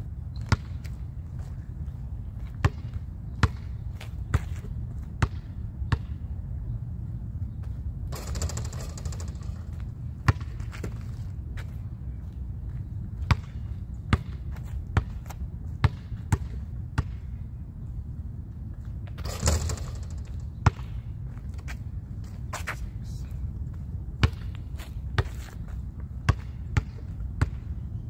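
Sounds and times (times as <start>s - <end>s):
steady low rumble: 0.0s - 28.0s
basketball bouncing on asphalt: 0.3s - 6.3s, 7.6s - 17.4s, 19.1s - 22.4s, 23.7s - 27.8s.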